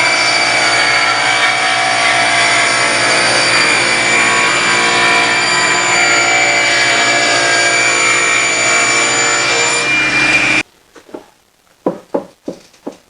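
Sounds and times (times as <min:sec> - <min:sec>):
table saw cutting wood: 0:00.0 - 0:10.6.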